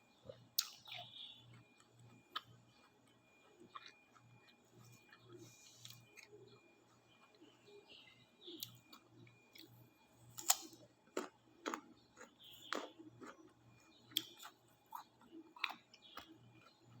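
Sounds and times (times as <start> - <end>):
person chewing crunchy fruit: 0.0 - 7.6, 8.5 - 17.0.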